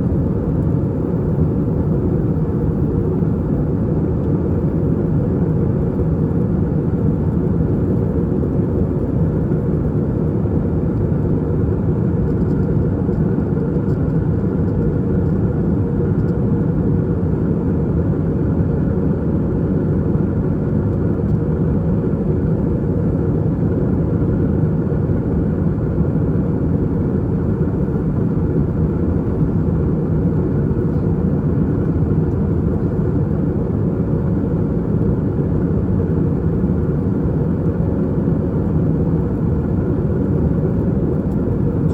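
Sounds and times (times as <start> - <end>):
airplane cabin engine roar: 0.0 - 41.9.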